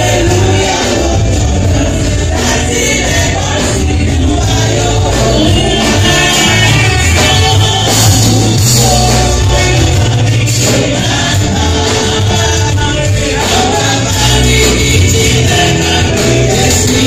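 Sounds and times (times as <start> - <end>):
gospel music with group singing: 0.0 - 17.0.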